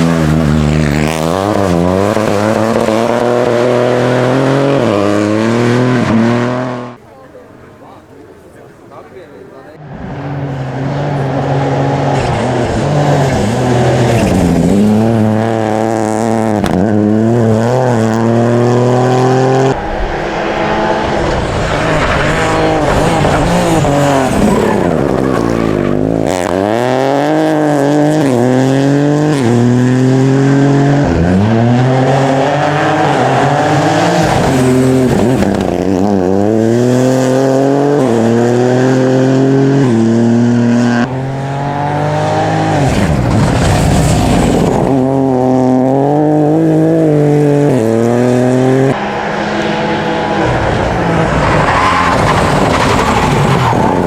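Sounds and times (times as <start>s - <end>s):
rally car engine revving: 0.0s - 9.1s, 9.7s - 54.0s.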